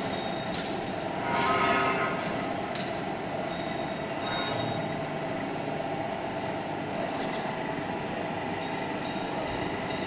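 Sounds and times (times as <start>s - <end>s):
mechanical hum of electric drives: 0.0s - 10.0s.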